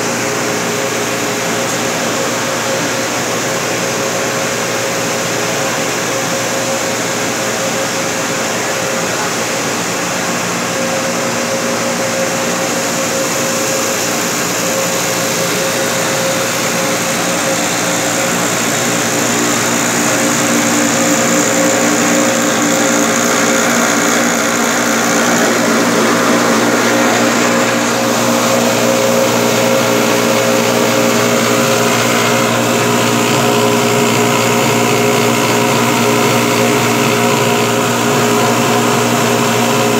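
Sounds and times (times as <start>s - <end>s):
extrusion machinery droning: 0.0s - 39.9s.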